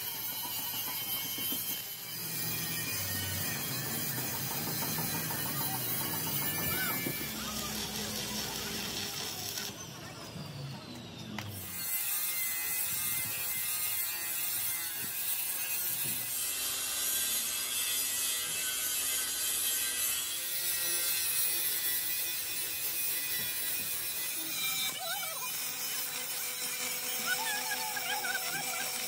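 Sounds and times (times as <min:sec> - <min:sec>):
continuous workshop hiss: 0:00.0 - 0:29.0.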